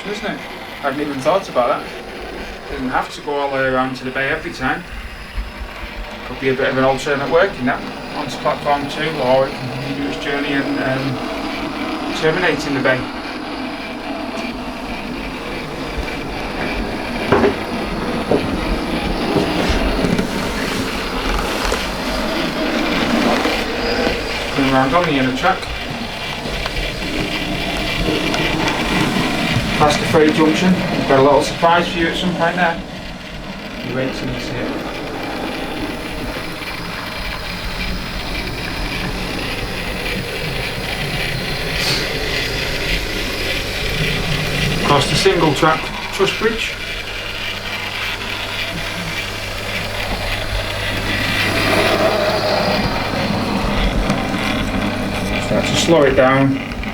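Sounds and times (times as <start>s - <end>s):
metal wheels rolling on rails: 0.0s - 56.9s
model train rumbling on track: 0.0s - 56.9s.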